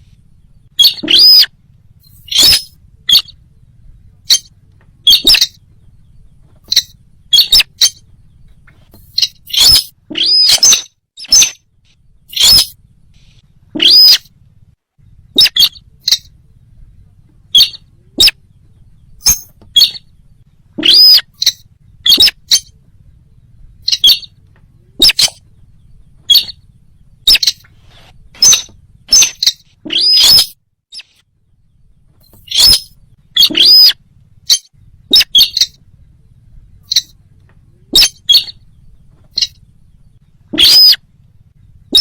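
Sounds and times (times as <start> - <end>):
bird lure calls: 0.0 - 3.4, 4.2 - 14.3, 15.2 - 16.4, 17.4 - 31.2, 32.1 - 36.1, 36.7 - 41.1, 41.8 - 42.0.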